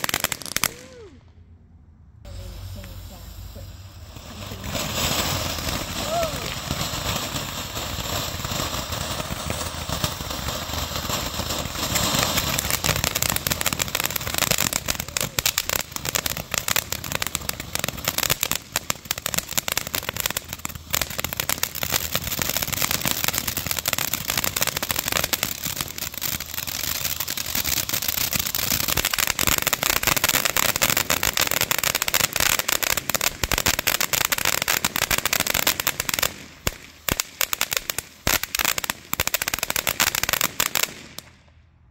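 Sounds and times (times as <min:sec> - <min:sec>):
firework hissing and crackling: 0:00.0 - 0:01.2, 0:02.3 - 0:41.5.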